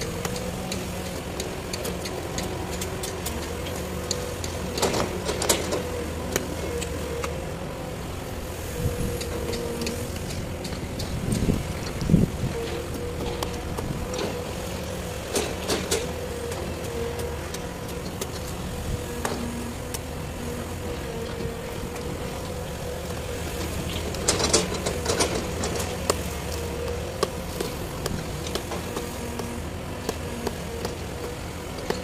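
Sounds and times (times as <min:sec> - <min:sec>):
excavator diesel engine whining: 0:00.0 - 0:32.0.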